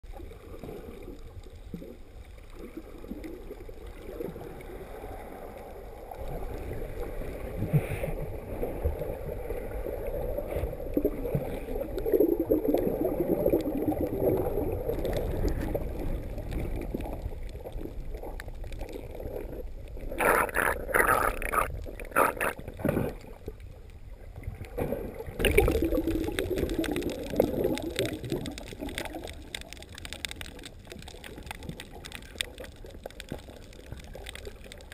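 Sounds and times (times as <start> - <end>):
muffled underwater rushing: 0.0 - 34.9.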